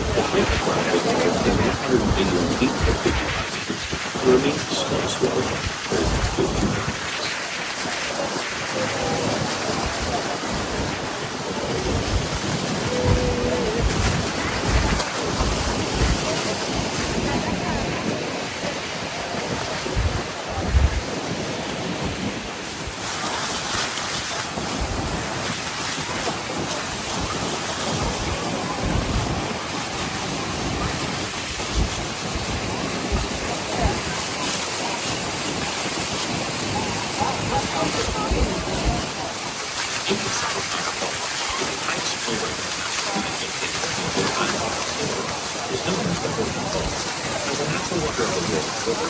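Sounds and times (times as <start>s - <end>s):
waterfall roaring: 0.0s - 49.0s
wind buffeting microphone: 0.0s - 49.0s.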